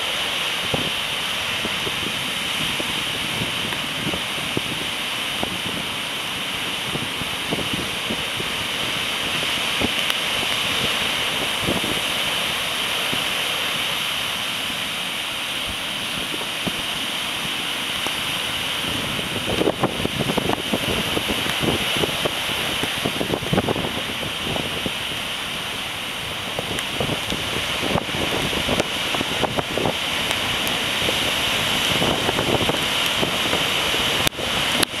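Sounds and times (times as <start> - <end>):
heavy surf breaking: 0.0 - 35.0
wind gusts buffeting microphone: 0.0 - 35.0.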